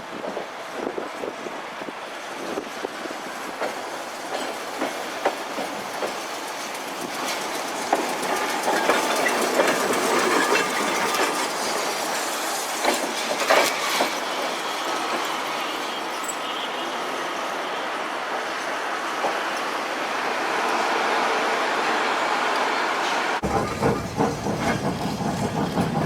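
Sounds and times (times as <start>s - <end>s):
streetcar wheels clacking on rails: 0.0s - 26.0s.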